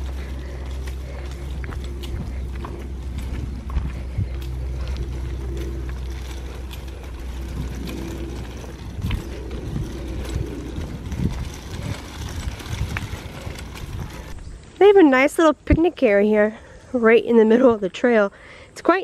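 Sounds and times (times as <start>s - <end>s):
footsteps crunching: 0.0s - 16.2s
stroller wheels rolling on dirt: 0.0s - 19.0s.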